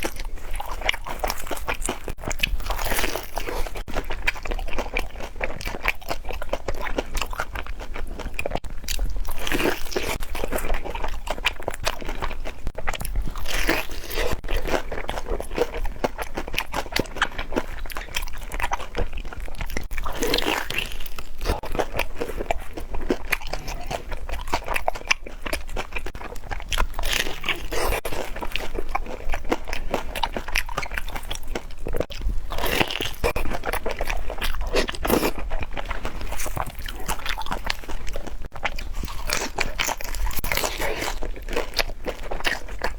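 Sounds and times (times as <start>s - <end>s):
crisp crunching of fried food: 0.0s - 42.9s.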